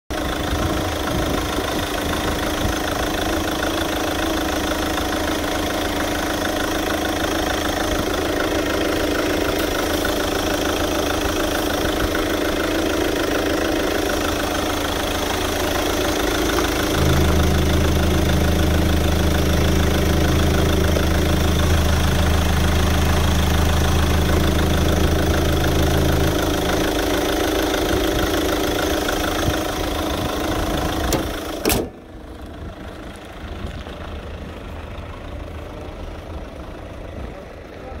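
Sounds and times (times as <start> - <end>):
deeper engine hum: 0.1 - 38.0
diesel engine idling: 0.1 - 38.0.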